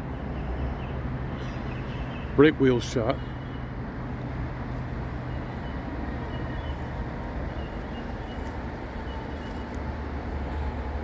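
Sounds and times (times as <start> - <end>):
low rumble of vehicle noise: 0.0 - 11.0.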